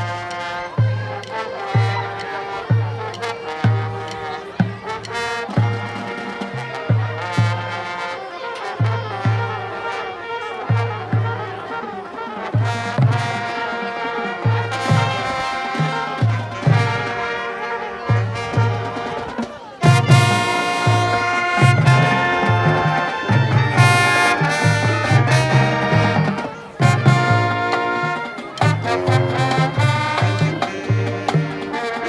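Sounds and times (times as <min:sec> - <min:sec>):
trumpets and trombones: 0:00.0 - 0:32.0.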